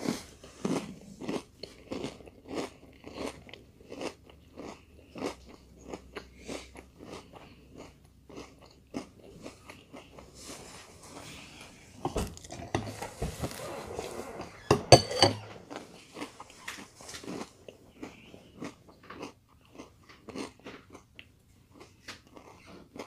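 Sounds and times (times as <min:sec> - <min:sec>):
cereal being chewed and crunched: 0:00.0 - 0:11.4, 0:15.6 - 0:23.0.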